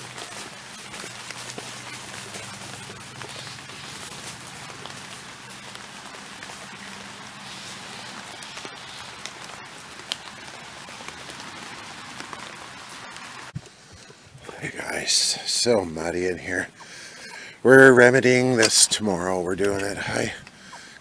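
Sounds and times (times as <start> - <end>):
drops ticking: 0.0 - 21.0
rain falling: 0.0 - 21.0.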